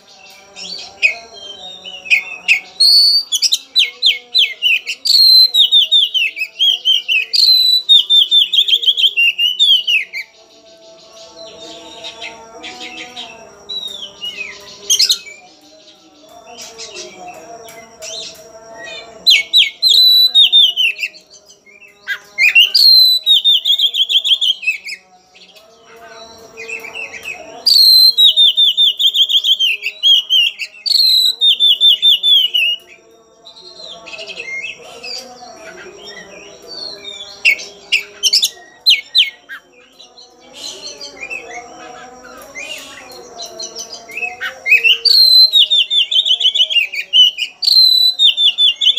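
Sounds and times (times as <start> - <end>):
bird singing trilled phrases: 0.0 - 48.9
soft bird chirps and calls: 0.0 - 48.9.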